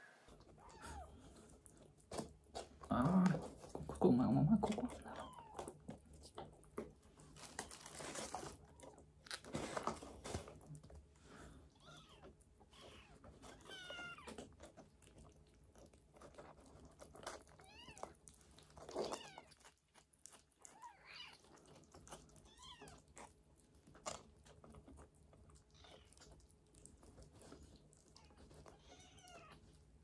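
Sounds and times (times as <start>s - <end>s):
kittens chewing wet food: 0.3s - 30.0s.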